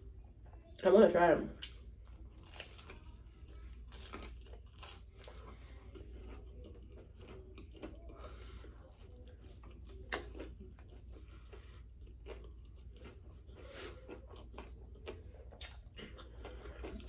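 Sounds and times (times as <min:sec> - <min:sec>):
low steady hum: 0:00.0 - 0:17.0
person chewing food: 0:01.6 - 0:17.0.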